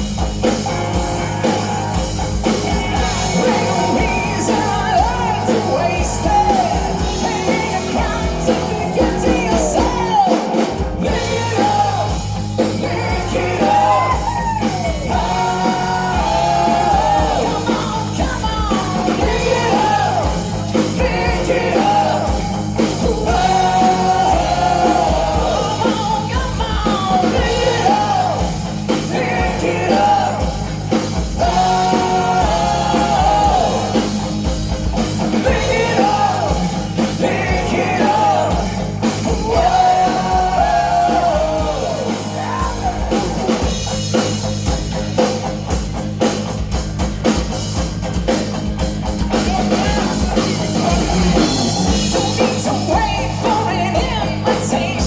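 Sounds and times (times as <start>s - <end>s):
rock band playing: 0.0s - 55.0s
person singing: 2.4s - 34.5s, 35.2s - 43.8s, 49.2s - 55.0s.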